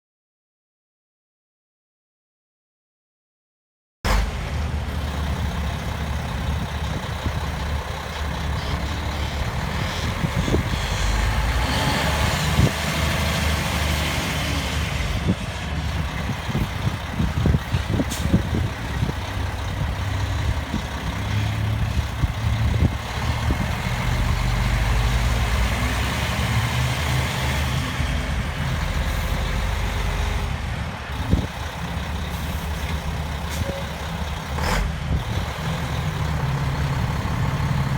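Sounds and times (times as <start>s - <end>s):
diesel truck engine running: 4.1s - 37.9s.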